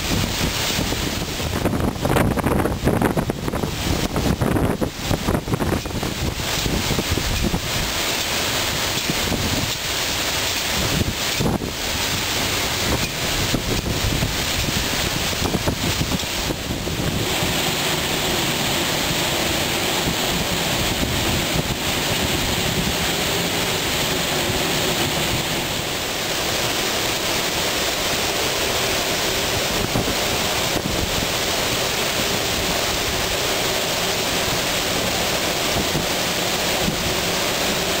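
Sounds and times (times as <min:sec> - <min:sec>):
rain: 0:00.0 - 0:38.0
wind blowing through palm trees: 0:00.0 - 0:38.0
wind buffeting microphone: 0:00.0 - 0:38.0.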